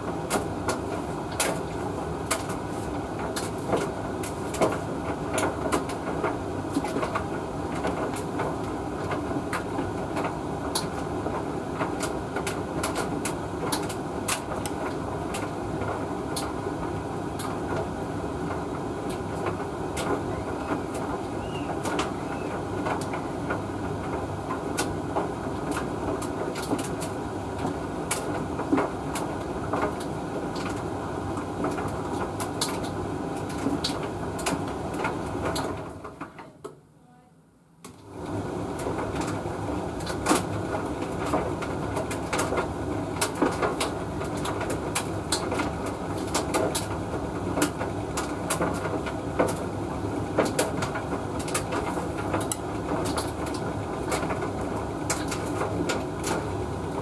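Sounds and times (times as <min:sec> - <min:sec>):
tumble dryer running: 0:00.0 - 0:36.3, 0:37.9 - 0:57.0.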